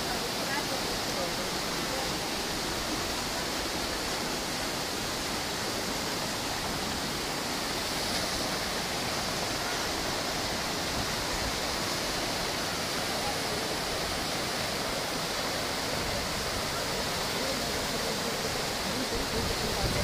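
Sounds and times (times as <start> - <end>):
rushing water of rapids: 0.0 - 20.0.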